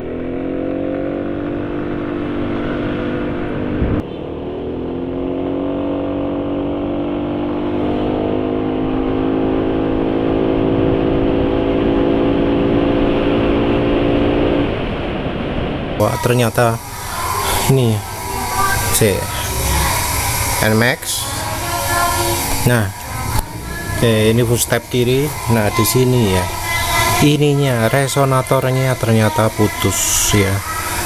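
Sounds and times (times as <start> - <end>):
scooter engine running: 0.0 - 14.7, 16.0 - 31.0.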